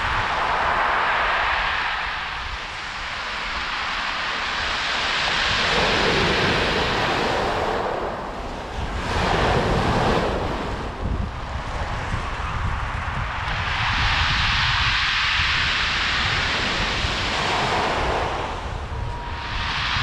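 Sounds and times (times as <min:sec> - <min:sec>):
sea waves breaking on shore: 0:00.0 - 0:12.3, 0:13.7 - 0:20.0
wind rumbling on microphone: 0:00.0 - 0:20.0.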